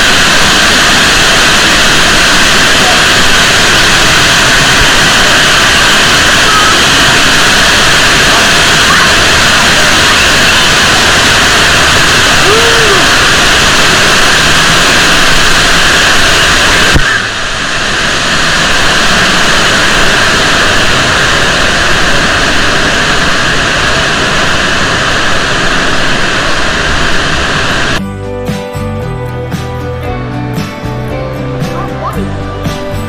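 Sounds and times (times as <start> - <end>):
loud rushing noise: 0.0 - 28.0.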